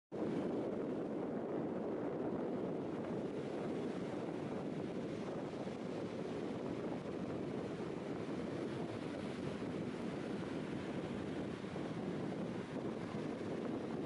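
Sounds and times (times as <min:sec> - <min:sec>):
wind noise: 0:00.1 - 0:14.0.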